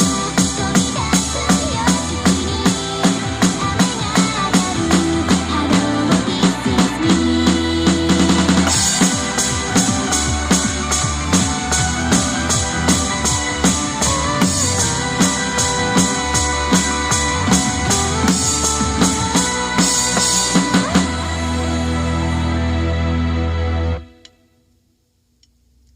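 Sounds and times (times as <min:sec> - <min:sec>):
drum kit beat: 0:00.0 - 0:22.5
recorded music track: 0:00.0 - 0:25.9.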